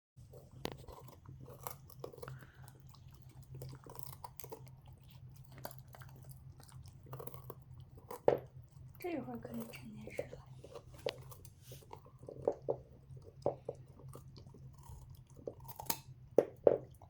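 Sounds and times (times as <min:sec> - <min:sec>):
dog crunching a carrot: 0:00.2 - 0:17.0
faint low hum: 0:00.2 - 0:17.0.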